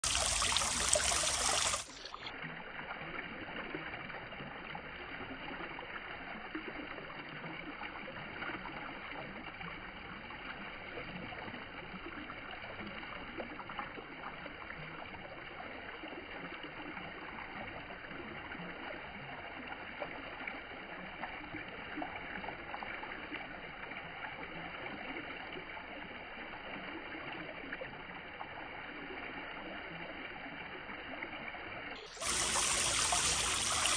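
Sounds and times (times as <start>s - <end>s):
fountain water splashing into pool: 0.0s - 33.9s.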